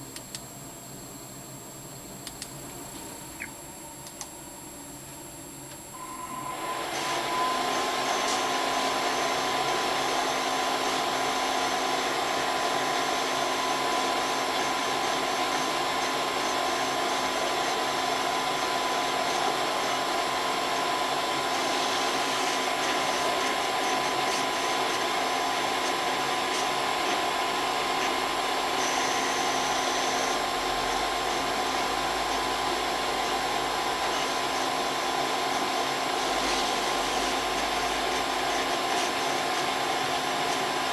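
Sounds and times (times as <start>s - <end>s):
vinyl cutter motor whir: 5.6s - 40.9s.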